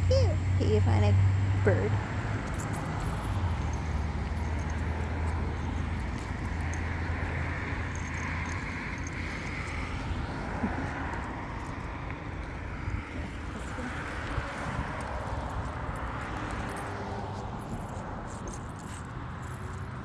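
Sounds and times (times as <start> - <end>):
tyre and road noise: 0.0 - 20.0
vehicle engine hum: 0.0 - 20.0.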